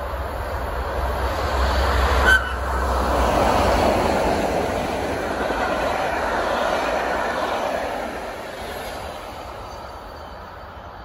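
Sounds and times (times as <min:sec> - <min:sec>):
electric train rumbling past: 0:00.0 - 0:11.0.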